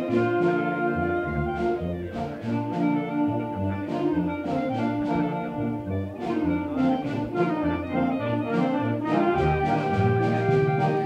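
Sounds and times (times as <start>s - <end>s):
concert band playing: 0.0s - 11.0s.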